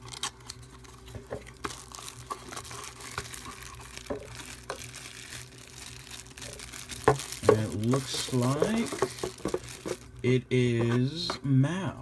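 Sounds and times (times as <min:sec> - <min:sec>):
cardboard packaging rustling: 0:00.0 - 0:10.3.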